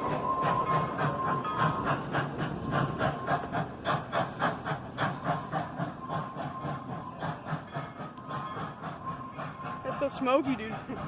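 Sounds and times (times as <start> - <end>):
steam hiss: 0.0 - 11.0
steam train running by: 0.0 - 11.0.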